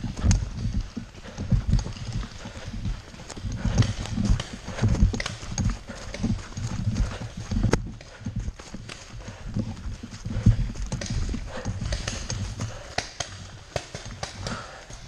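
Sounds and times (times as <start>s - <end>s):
running footsteps on woodland ground: 0.0s - 15.0s
paintball marker rattling: 0.1s - 14.8s.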